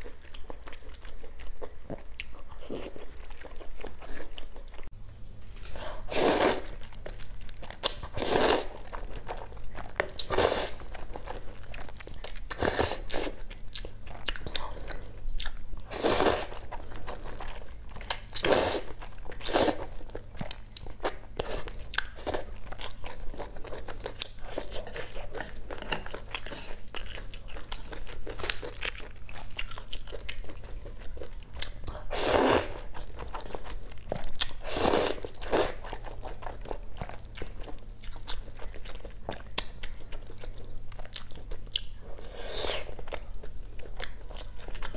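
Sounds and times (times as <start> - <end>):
wet chewing and smacking: 6.7 - 44.9.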